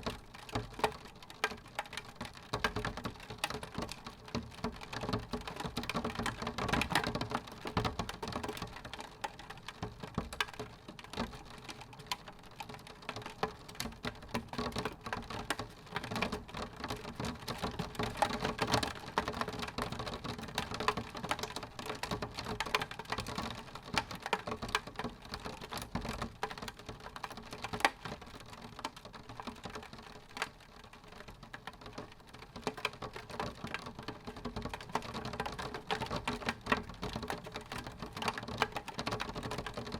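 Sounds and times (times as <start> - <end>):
rain drops tapping on glass: 0.0 - 39.9.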